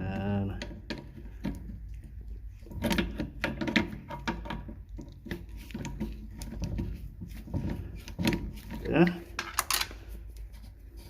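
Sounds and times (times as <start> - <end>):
grips clicking and scraping on nut: 0.1 - 10.6.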